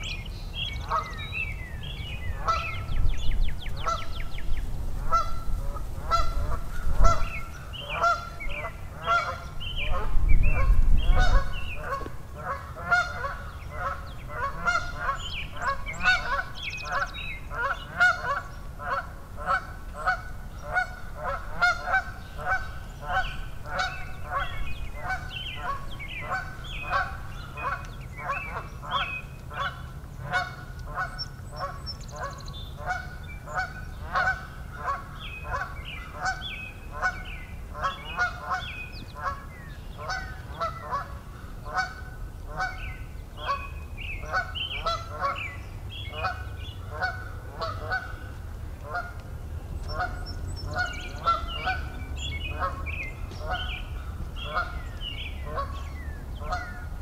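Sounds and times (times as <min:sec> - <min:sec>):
chorus of birds calling: 0:00.0 - 0:04.5, 0:06.1 - 0:49.2, 0:49.8 - 0:57.0.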